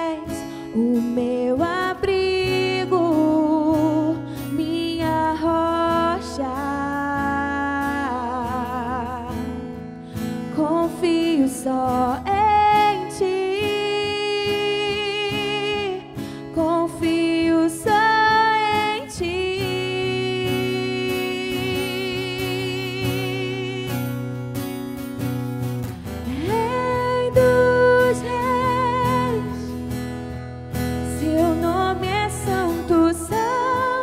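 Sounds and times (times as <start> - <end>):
woman singing: 0.0 - 24.9, 26.0 - 34.0
acoustic guitar: 0.0 - 34.0.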